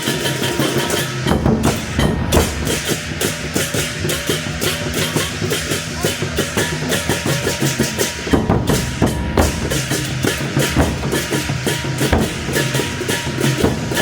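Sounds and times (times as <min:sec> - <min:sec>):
fast percussion drumming: 0:00.0 - 0:14.0.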